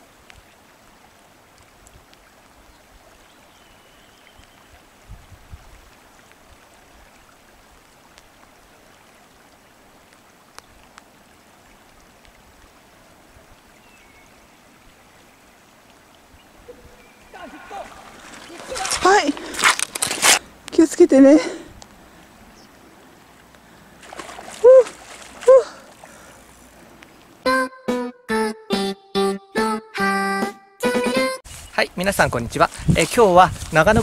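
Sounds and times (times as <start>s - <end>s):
river water rushing: 0.0s - 27.4s.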